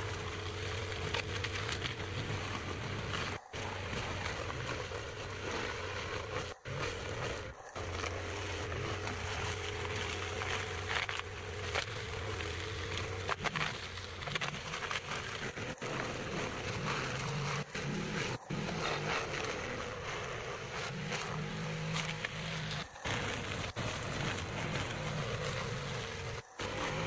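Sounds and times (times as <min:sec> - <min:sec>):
rake dragging through grass: 0:00.0 - 0:27.0
small engine droning: 0:00.0 - 0:27.0.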